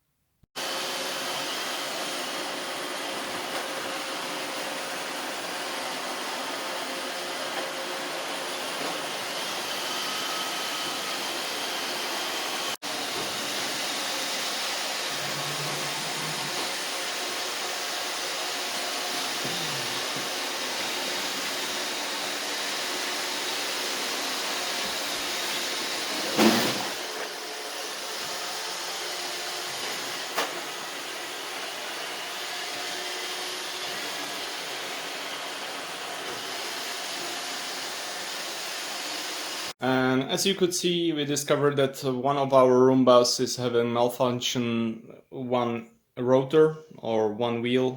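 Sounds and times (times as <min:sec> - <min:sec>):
robot vacuum whirring: 0:00.6 - 0:39.7.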